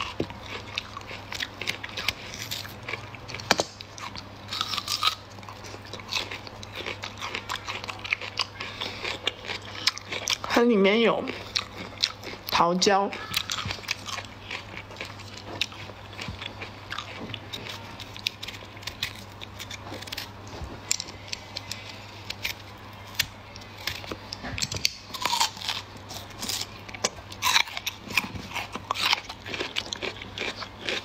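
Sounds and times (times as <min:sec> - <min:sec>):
faint low hum: 0:00.0 - 0:31.0
fruit being chewed: 0:00.0 - 0:31.0.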